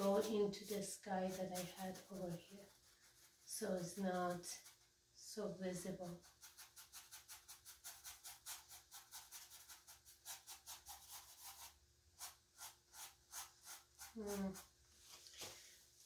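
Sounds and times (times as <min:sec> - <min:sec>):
paintbrush rubbing on canvas: 0:00.0 - 0:04.9, 0:05.8 - 0:15.9.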